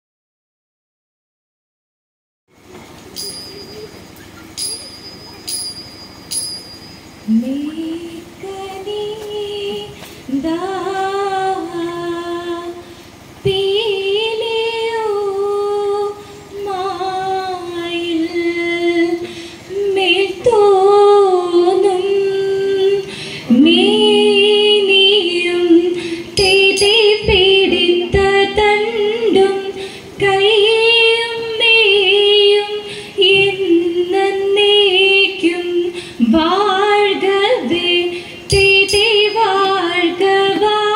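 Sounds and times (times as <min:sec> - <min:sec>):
women singing: 0:07.3 - 0:12.8, 0:13.4 - 0:40.9.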